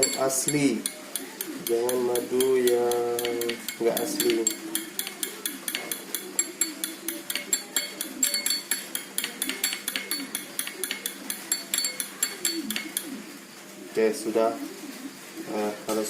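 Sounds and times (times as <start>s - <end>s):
spoon clinking against container: 0.0s - 13.1s.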